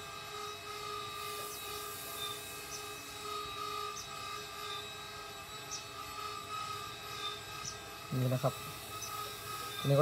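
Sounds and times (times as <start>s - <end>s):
steady drone of held tones: 0.0s - 10.0s.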